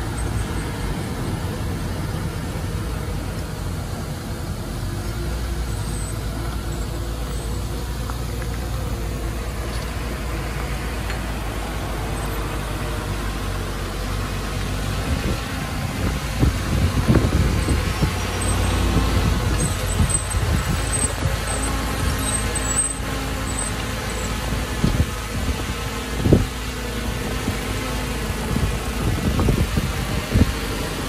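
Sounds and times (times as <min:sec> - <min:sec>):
heavy diesel engine under load: 0:00.0 - 0:31.0.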